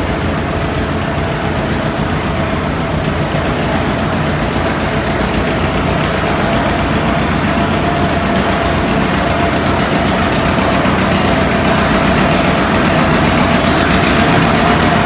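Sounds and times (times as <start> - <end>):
constant whining note: 0.0 - 15.0
tractor engine running: 0.0 - 15.0.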